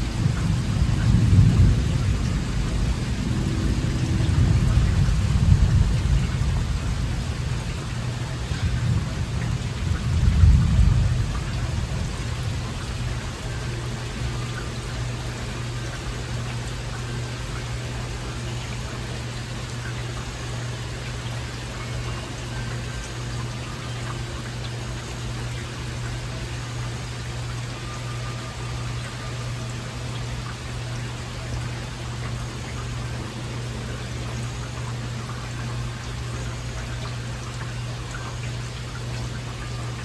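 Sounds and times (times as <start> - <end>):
heavy rain: 0.0 - 40.0.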